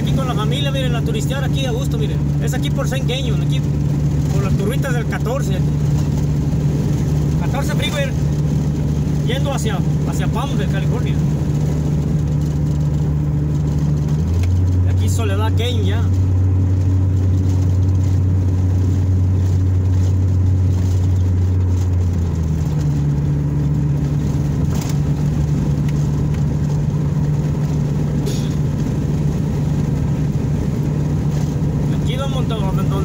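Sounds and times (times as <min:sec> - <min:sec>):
car engine and tyre drone: 0:00.0 - 0:33.0.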